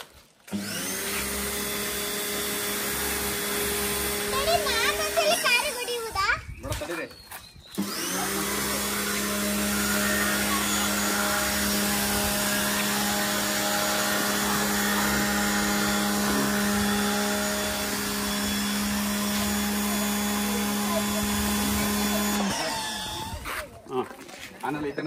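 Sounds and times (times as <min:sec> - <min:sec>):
pressure washer motor hum: 0:00.5 - 0:06.2, 0:07.7 - 0:23.6.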